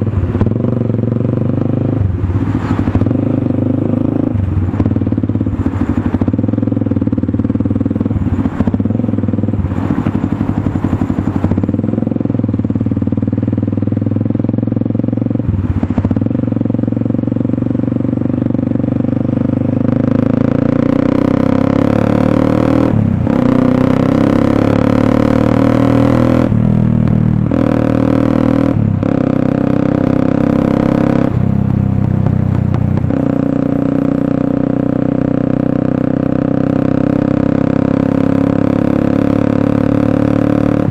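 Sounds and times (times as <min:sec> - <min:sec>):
single-cylinder motorcycle engine: 0:00.0 - 0:40.9.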